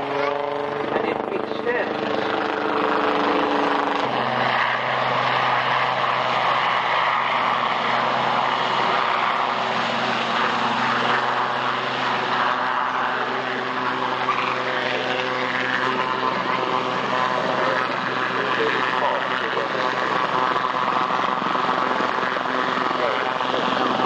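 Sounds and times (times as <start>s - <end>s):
aircraft engine drone: 0.0s - 24.0s.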